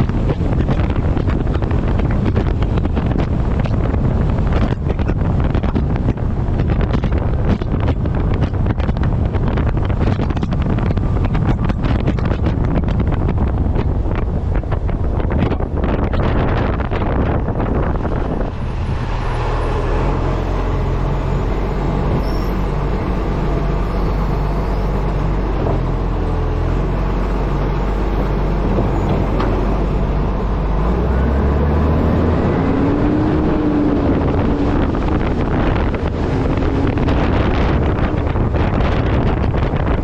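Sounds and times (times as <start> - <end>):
diesel truck engine running: 0.0 - 40.0
road and wind noise: 0.0 - 40.0.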